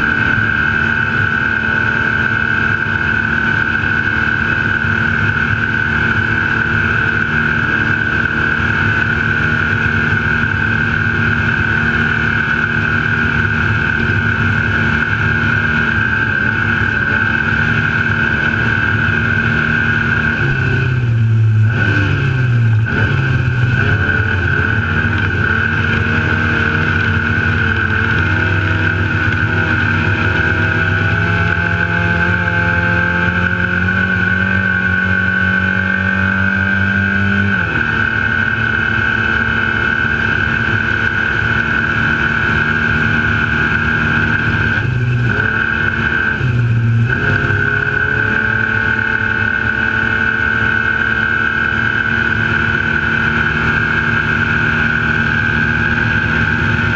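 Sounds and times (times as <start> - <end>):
steady high whine: 0.0 - 56.9
truck engine running hard: 0.0 - 56.9.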